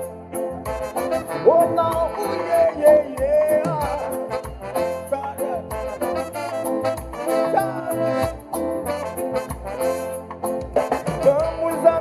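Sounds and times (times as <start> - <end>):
song with beat and bass line: 0.0 - 12.0.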